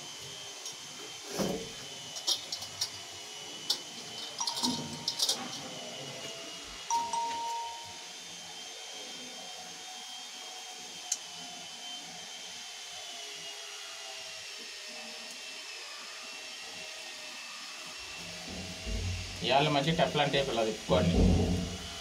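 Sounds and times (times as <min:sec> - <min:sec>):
mechanical drone with high whine: 0:00.0 - 0:22.0.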